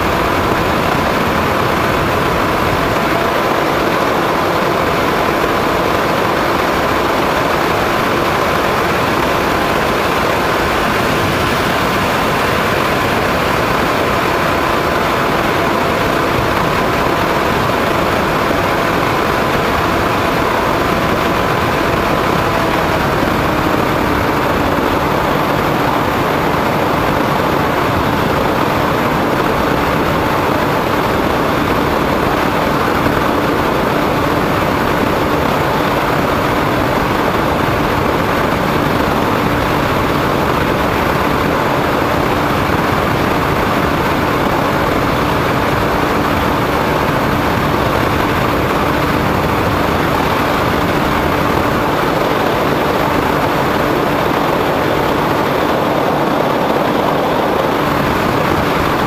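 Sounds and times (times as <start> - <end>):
model airplane motor and propeller: 0.0 - 59.0
wind rush: 0.0 - 59.0.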